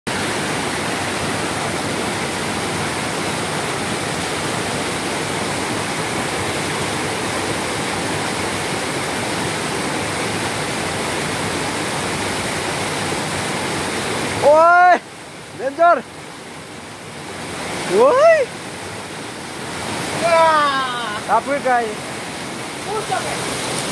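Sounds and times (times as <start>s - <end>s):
waterfall rushing over rocks: 0.1s - 23.9s.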